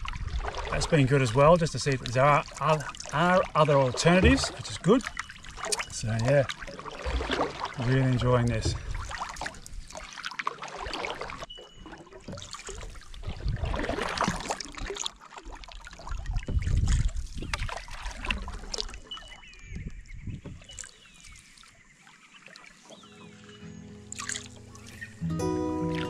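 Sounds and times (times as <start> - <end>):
paddle splashing in water: 0.0 - 26.0.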